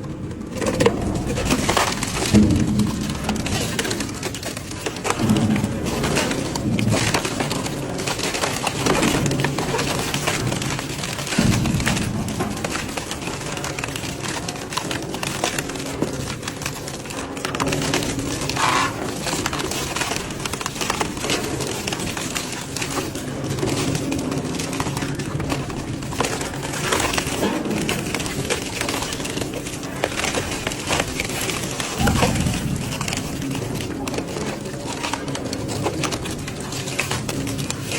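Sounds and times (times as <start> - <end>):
low machine drone: 0.0 - 21.9, 22.5 - 37.9.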